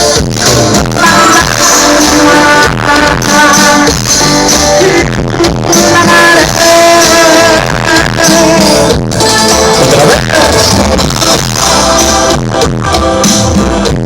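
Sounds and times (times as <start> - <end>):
bass: 0.0 - 14.0
drums: 0.0 - 14.0
loud live band music: 0.0 - 14.0.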